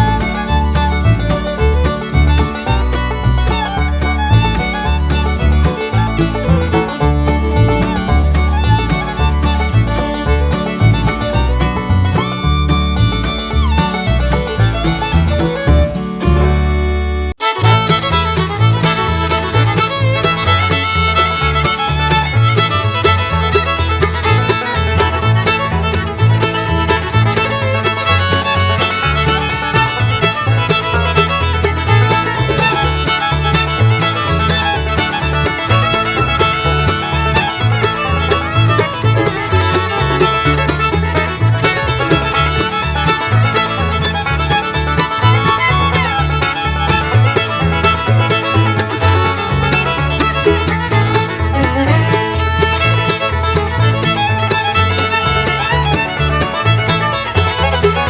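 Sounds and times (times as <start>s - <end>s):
upbeat bluegrass fiddle tune: 0.0s - 58.0s.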